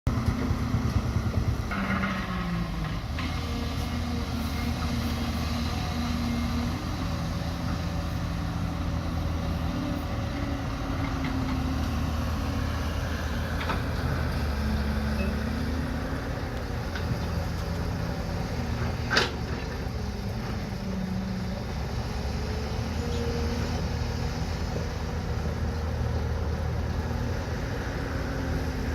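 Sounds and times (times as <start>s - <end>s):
excavator diesel engine running: 0.1s - 28.9s.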